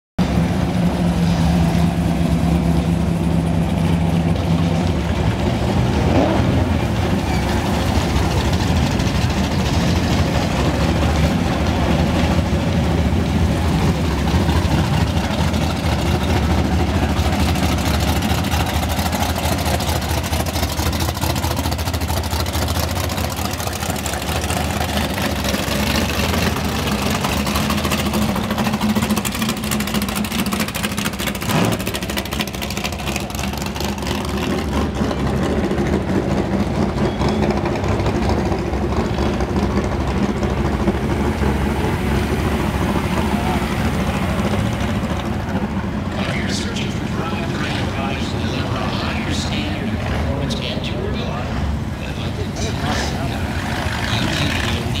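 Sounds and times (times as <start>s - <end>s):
cars driving past at low revs: 0.2s - 55.0s.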